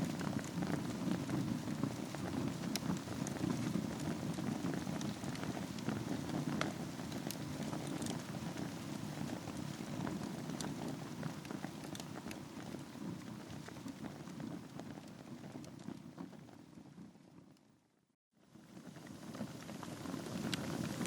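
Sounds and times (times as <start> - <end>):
burning wood crackling: 0.0 - 17.1, 18.7 - 21.0
low rush of flame: 0.0 - 17.2, 18.6 - 21.0.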